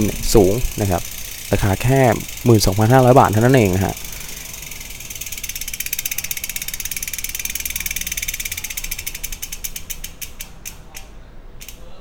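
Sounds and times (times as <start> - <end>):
bicycle freehub clicking: 0.0 - 12.0.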